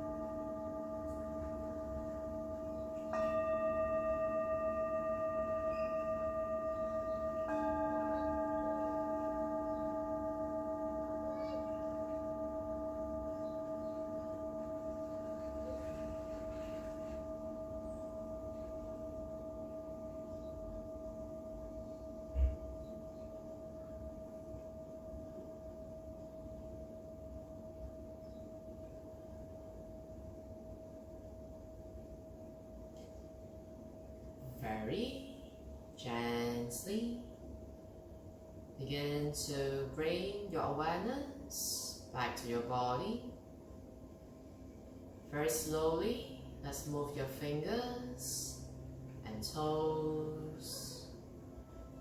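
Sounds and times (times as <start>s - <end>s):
singing bowl ringing: 0.0s - 52.0s.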